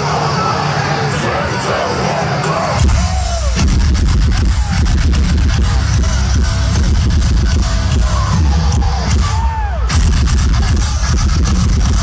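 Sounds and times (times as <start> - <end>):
heavy rock band playing live: 1.2 - 12.0.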